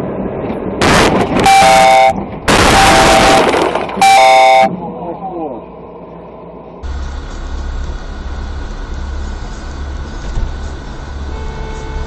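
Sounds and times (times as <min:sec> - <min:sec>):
car interior road noise: 0:00.0 - 0:12.0.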